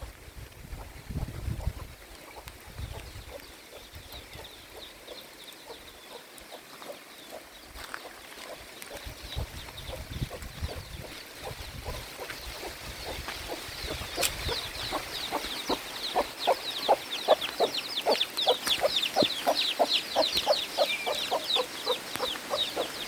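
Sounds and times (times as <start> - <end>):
chicks peeping: 0.7 - 23.0
hen clucking: 1.4 - 23.0.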